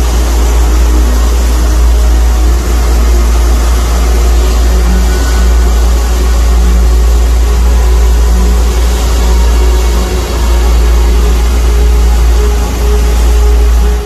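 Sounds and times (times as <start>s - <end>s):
churning wake rushing: 0.0s - 14.0s
motor boat running: 0.0s - 14.0s.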